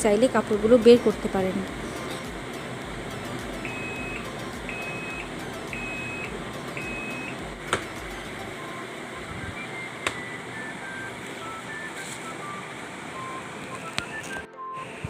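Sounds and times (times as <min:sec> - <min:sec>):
washing machine high beeps: 0:00.5 - 0:15.0.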